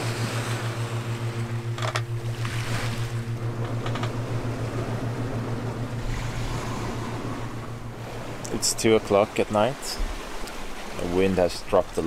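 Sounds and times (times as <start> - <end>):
pulsing low hum: 0.0 - 12.0
water rushing along hull: 0.0 - 12.0.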